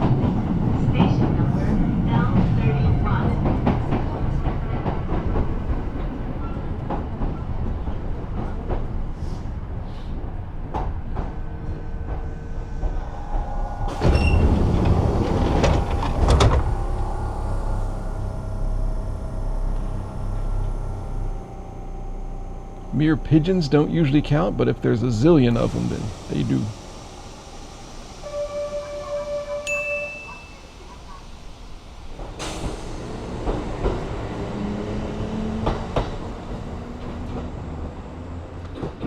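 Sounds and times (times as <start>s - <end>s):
standing train hum: 0.0s - 39.0s
train doors clunking and rushing: 0.0s - 39.0s
train running and slowing: 0.0s - 39.0s.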